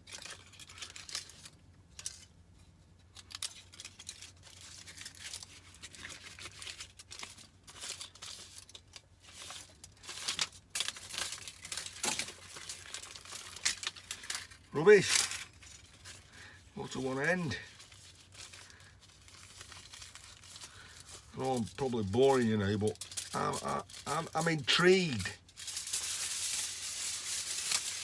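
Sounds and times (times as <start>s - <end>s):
foil and paper crinkling: 0.0s - 28.0s.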